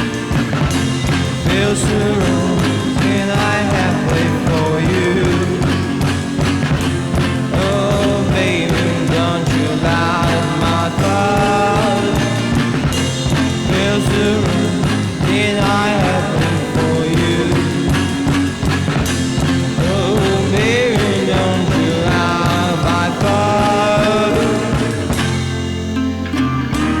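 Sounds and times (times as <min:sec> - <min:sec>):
rock music: 0:00.0 - 0:27.0.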